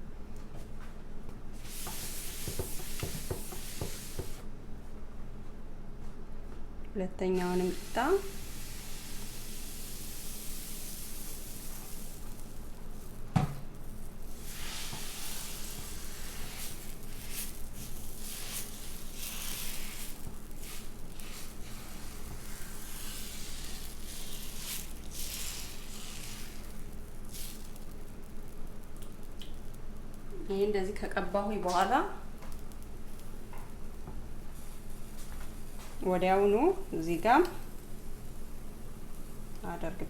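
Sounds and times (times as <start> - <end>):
sizzling on a hot griddle: 1.6 - 4.5, 7.4 - 40.0.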